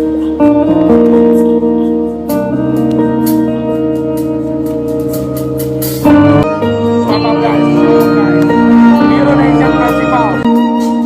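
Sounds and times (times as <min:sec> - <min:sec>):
keyboard chords over light beat: 0:00.0 - 0:11.0.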